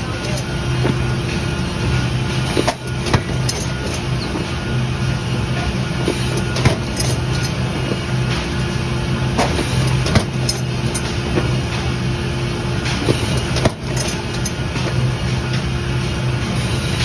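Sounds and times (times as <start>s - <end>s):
stacking machine hum: 0.0s - 17.0s.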